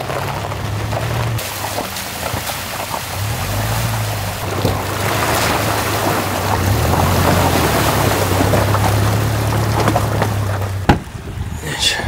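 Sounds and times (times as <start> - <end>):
water splashing from tyres: 0.0 - 11.6
low engine hum: 0.0 - 12.0.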